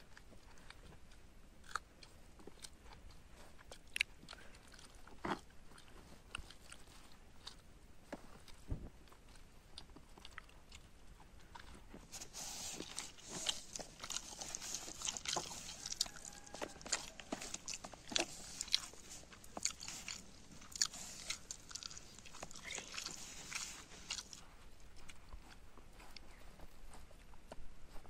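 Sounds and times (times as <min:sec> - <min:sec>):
fingers kneading rice on plate: 0:00.0 - 0:28.0
wet chewing clicks: 0:00.0 - 0:28.0.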